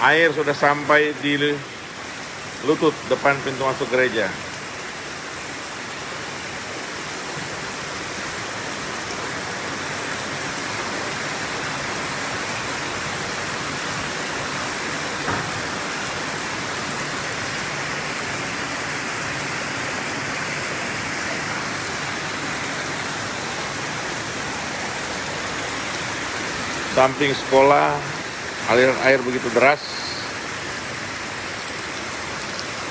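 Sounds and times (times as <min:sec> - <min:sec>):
fast-flowing floodwater: 0:00.0 - 0:32.9
heavy rain: 0:00.0 - 0:32.9.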